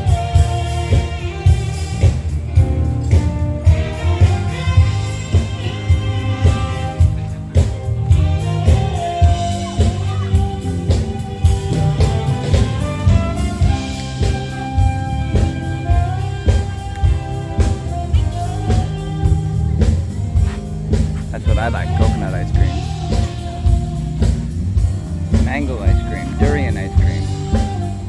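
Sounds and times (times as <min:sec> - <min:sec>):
drum kit beat: 0:00.0 - 0:28.0.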